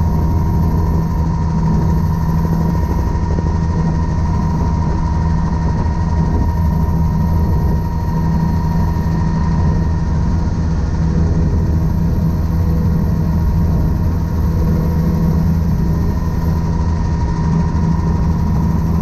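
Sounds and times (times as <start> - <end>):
helicopter engine and rotor drone: 0.0 - 19.0.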